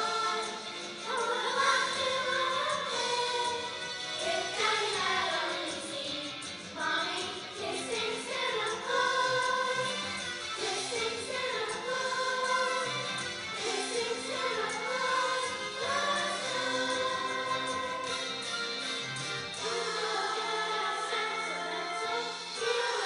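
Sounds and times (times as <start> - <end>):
children's choir singing: 0.0 - 18.4, 19.5 - 23.0.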